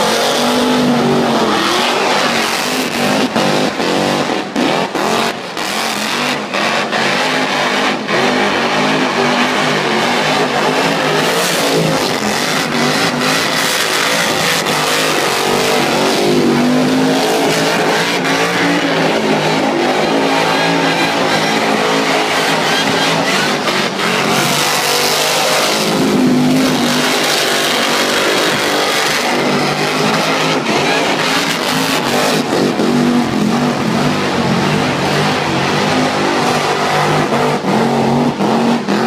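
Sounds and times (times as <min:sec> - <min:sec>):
car engine at high revs: 0:00.0 - 0:39.0
tyres spinning in a burnout: 0:00.0 - 0:39.0.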